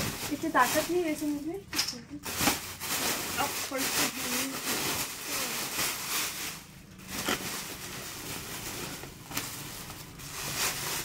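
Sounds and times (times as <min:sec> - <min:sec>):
packaging rustling and crinkling: 0:00.0 - 0:01.6, 0:02.2 - 0:11.0.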